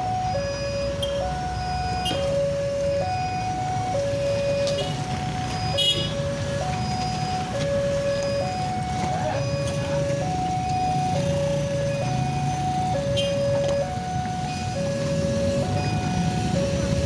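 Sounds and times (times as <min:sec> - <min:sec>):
road traffic rumbling: 0:00.0 - 0:17.0.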